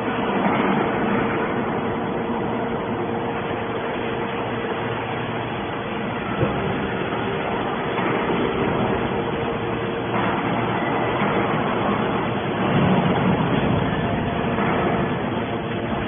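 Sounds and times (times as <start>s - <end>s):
hydraulic baler machine hum: 0.0s - 16.0s.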